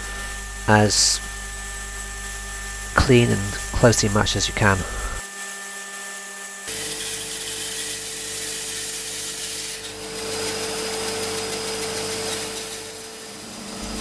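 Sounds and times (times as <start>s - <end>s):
bandsaw cutting wood: 0.0s - 14.0s.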